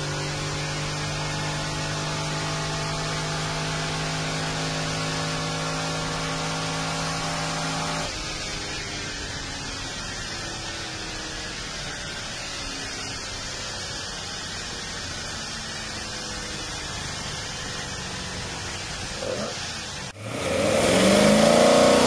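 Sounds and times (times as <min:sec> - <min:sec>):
car engine running: 0:00.0 - 0:22.0
road and tyre noise: 0:00.0 - 0:22.0.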